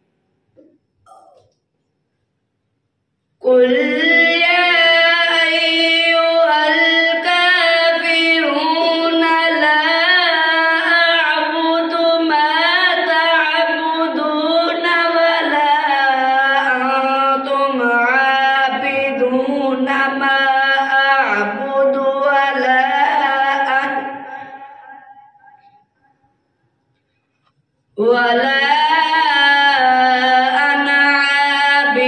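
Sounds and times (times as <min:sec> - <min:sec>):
boy reciting melodically: 0:03.4 - 0:25.1, 0:28.0 - 0:32.0.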